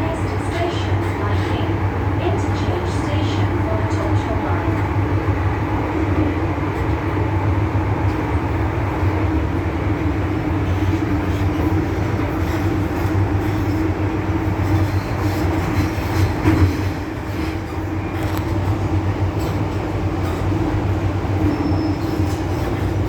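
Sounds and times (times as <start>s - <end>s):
electric train running on rails: 0.0s - 23.0s.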